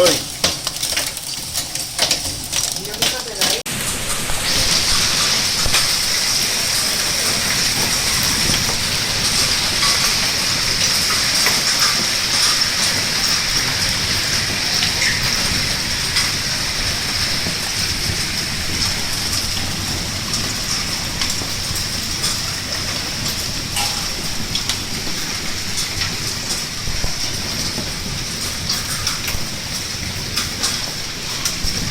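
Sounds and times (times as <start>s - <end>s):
hail pelting down: 0.0s - 31.9s.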